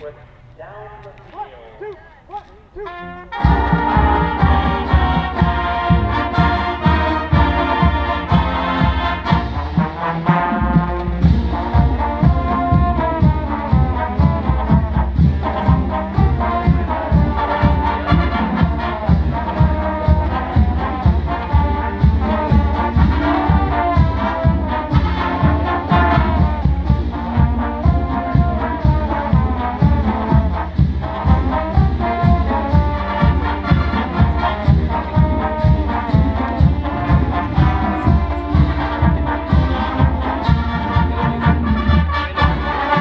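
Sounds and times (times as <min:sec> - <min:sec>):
marching band playing: 0:00.0 - 0:43.0.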